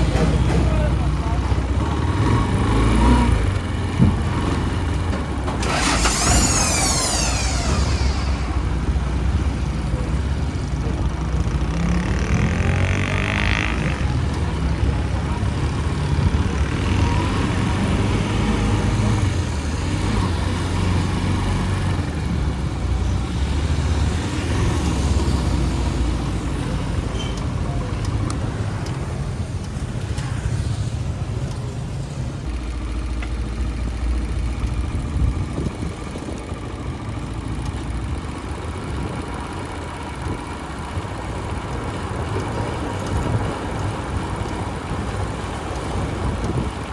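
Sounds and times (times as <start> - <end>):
road noise: 0.0 - 46.9
street traffic: 0.0 - 46.9
motorcycle engine running: 0.7 - 21.1, 21.9 - 46.9.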